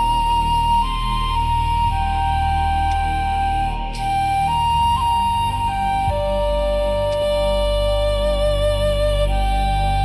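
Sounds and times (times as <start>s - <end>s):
slow background music: 0.0s - 10.0s.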